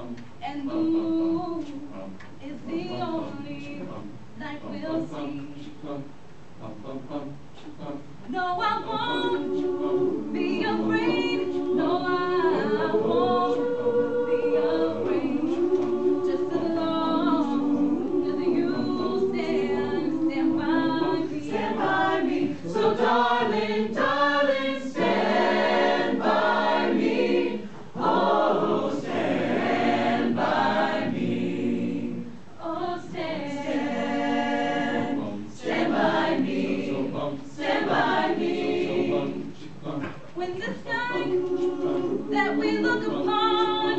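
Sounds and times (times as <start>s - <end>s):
small choir singing unaccompanied: 0.0s - 43.9s.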